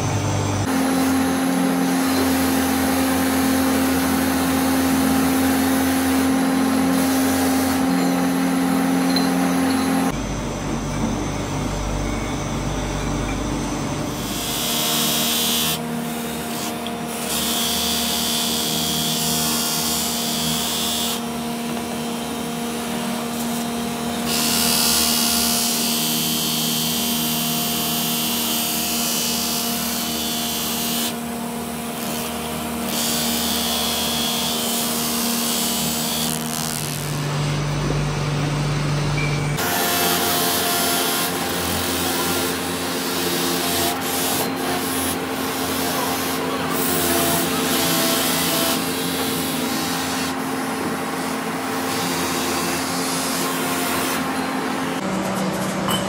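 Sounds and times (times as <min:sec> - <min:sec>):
polishing wheel motor humming: 0:00.0 - 0:55.1.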